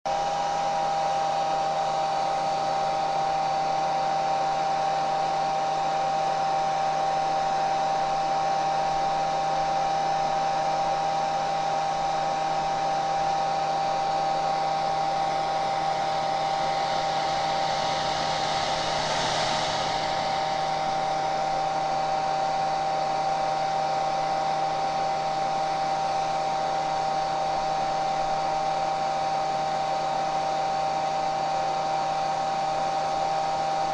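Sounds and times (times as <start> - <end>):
hair dryer running: 0.0 - 33.9.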